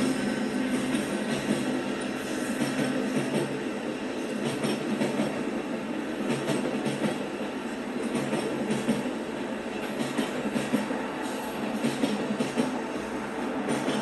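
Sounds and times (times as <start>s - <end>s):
passenger train rolling past: 0.0s - 14.0s.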